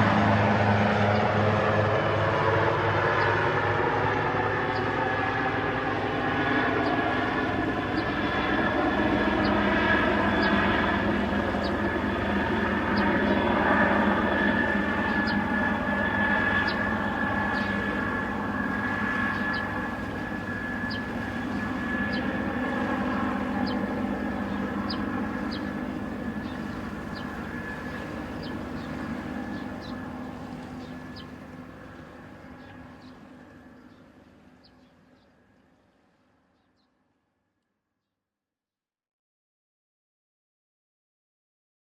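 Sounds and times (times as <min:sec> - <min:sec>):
helicopter rotor and engine: 0:00.0 - 0:36.7.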